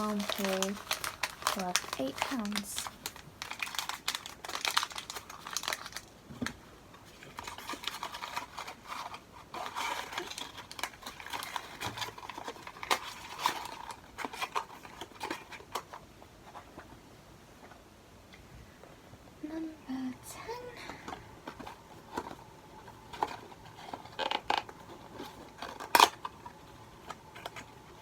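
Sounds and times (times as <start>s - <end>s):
paper packaging rustling: 0.0s - 16.9s, 20.5s - 28.0s.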